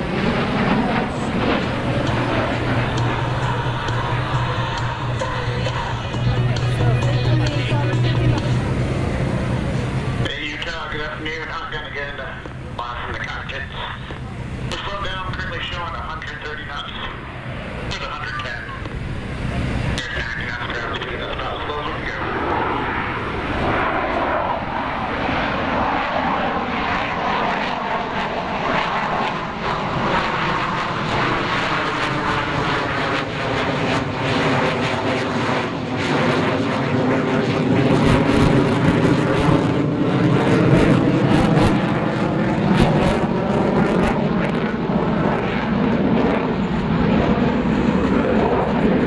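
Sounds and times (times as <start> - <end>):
jet flying past: 0.0 - 49.0.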